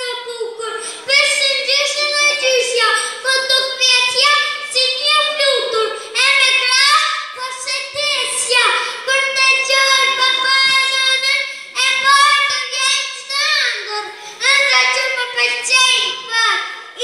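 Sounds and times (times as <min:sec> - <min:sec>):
boy chanting through loudspeakers: 0:00.0 - 0:17.0.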